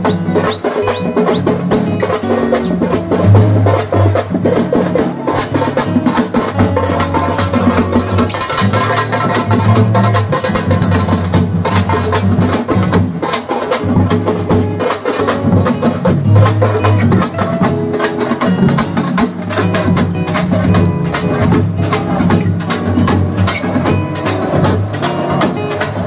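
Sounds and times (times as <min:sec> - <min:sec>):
barrel drums beaten fast: 0:00.0 - 0:26.0.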